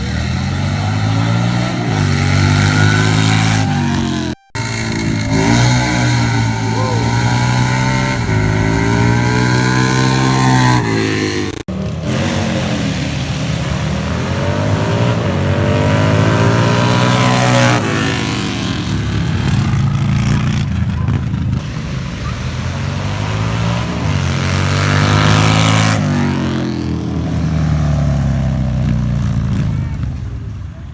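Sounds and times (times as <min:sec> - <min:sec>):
motorcycle engines at full throttle: 0:00.0 - 0:30.9.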